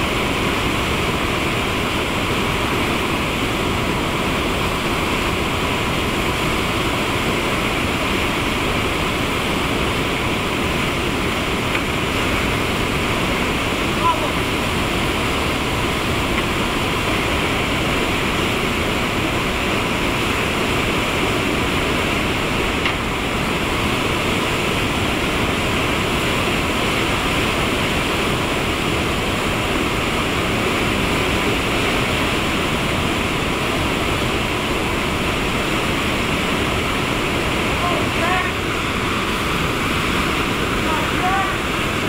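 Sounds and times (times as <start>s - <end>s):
whitewater rapids rushing: 0.0s - 42.0s.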